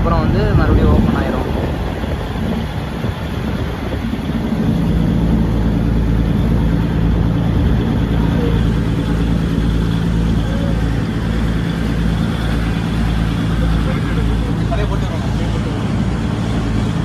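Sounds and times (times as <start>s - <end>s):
diesel train engine running: 0.0s - 17.0s.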